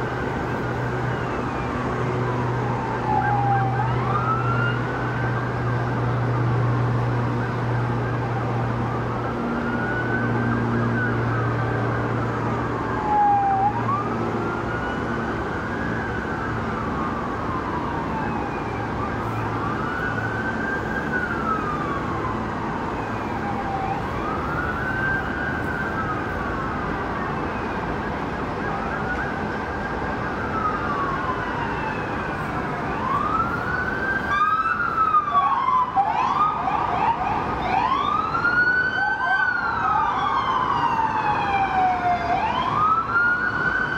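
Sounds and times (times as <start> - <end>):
siren wailing: 0.0 - 43.9.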